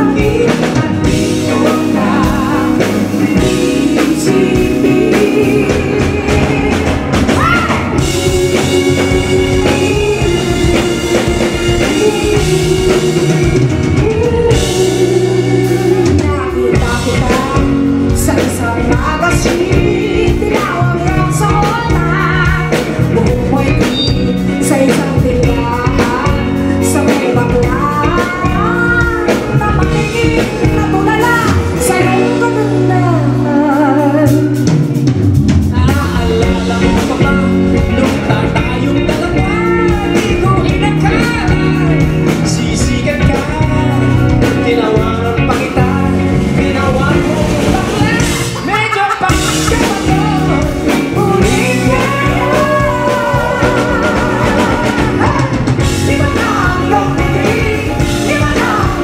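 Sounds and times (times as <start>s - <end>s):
woman and man singing live: 0.0s - 35.0s, 35.6s - 59.0s
pop-rock band playing: 0.0s - 59.0s.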